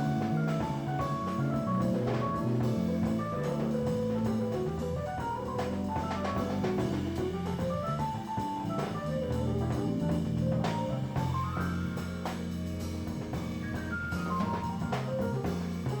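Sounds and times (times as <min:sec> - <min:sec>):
bass: 0:00.0 - 0:16.0
drum kit: 0:00.0 - 0:16.0
keyboard: 0:00.0 - 0:16.0.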